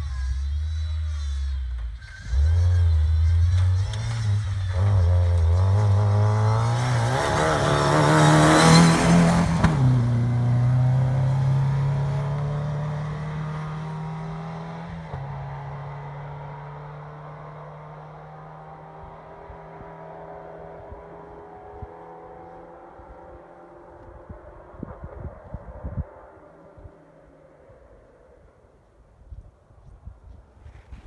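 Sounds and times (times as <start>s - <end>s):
atv engine accelerating: 0.0s - 28.8s.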